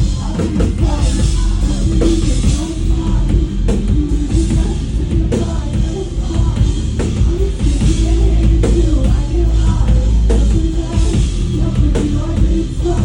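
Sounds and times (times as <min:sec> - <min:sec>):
heavy bass and drum beat: 0:00.0 - 0:13.0
live concert music: 0:00.0 - 0:13.0
person singing: 0:00.0 - 0:13.0.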